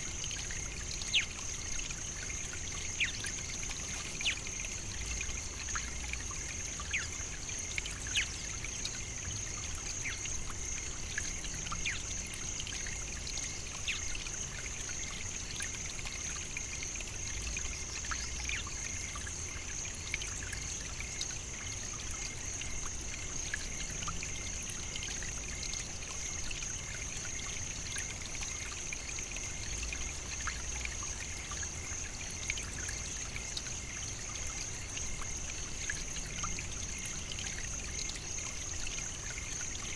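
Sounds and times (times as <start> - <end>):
small drips and clicks: 0.0 - 39.9
water trickling: 0.0 - 39.9.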